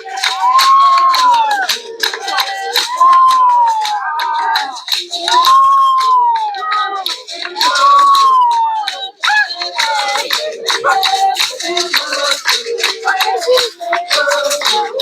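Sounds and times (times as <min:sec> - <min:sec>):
shaker rattles: 0:00.0 - 0:15.0
voices singing: 0:00.0 - 0:15.0.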